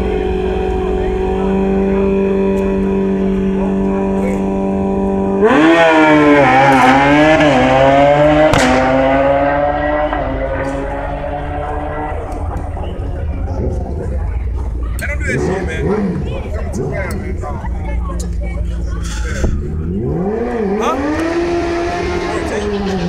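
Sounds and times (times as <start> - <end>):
loud engine accelerating: 0.0 - 23.0
motorcycle engine at steady revs: 0.0 - 23.0.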